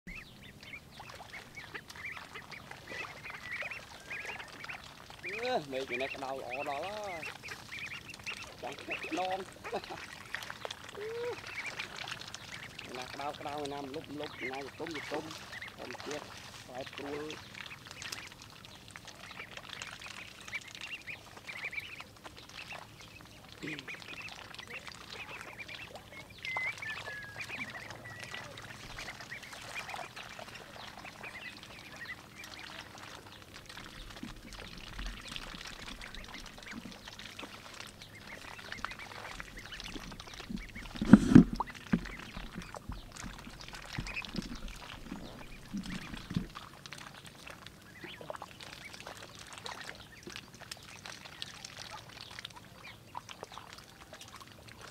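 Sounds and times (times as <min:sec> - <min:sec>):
ducks quacking: 0:00.1 - 0:46.7, 0:47.8 - 0:50.4.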